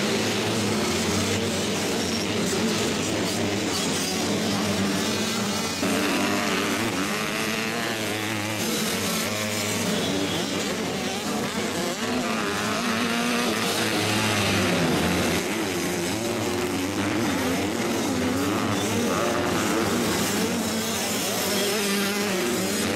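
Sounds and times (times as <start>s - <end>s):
motocross bike engines revving: 0.0s - 22.9s.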